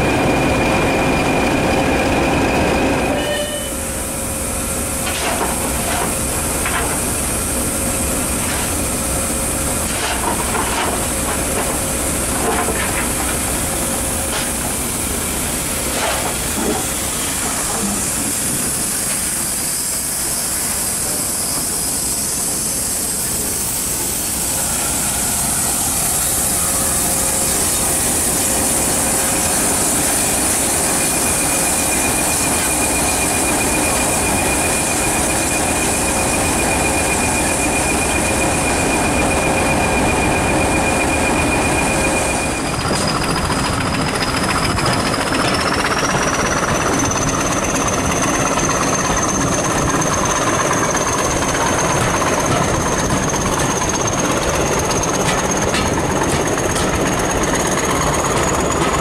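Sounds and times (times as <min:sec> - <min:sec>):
steady high whine: 0:00.0 - 0:59.0
steam locomotive hissing: 0:00.0 - 0:59.0.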